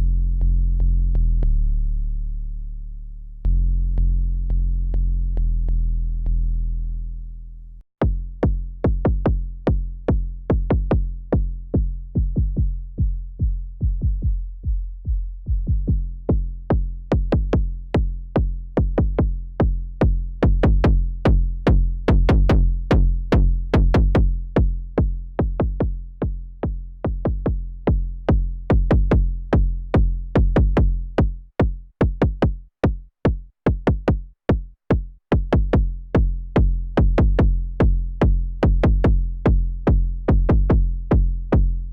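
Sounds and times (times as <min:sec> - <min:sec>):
electronic kick drum rhythm: 0:08.0 - 0:41.9.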